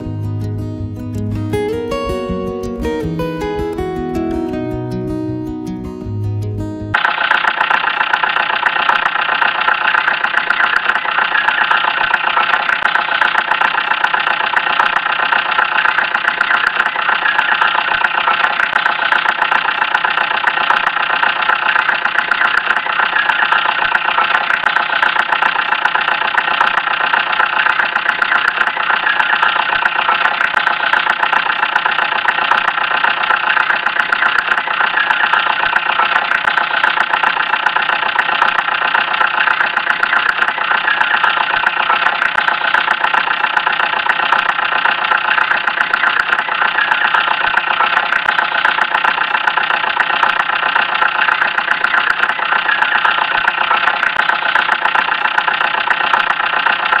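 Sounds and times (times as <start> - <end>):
small motor whirring with rattle: 7.0 - 57.0.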